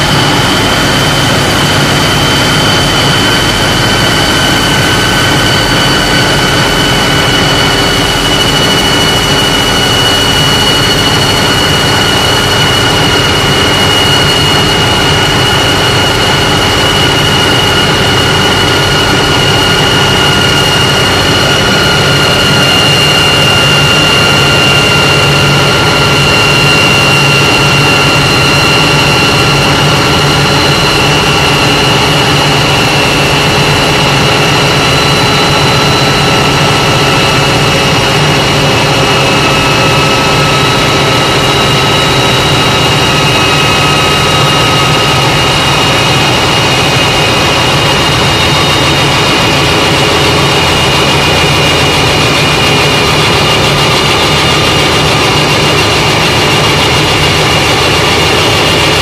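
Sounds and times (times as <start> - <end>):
high whine: 0.0 - 59.0
tractor diesel engine under load: 0.0 - 59.0.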